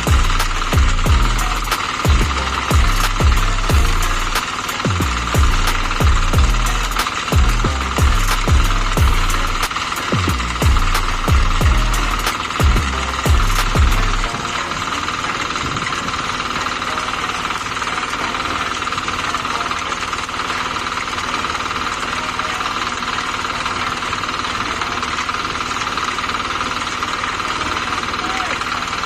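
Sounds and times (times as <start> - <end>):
engine running with fast rattling: 0.0 - 29.0.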